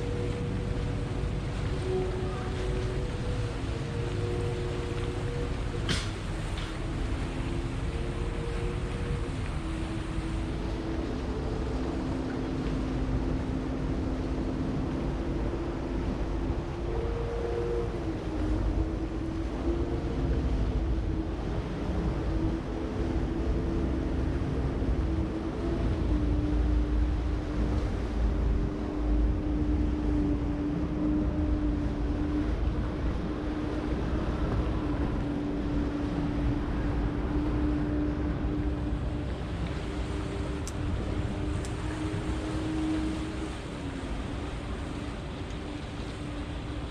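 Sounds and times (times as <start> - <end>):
boat engine rumbling: 0.0 - 46.9
wind buffeting microphone: 0.0 - 46.9.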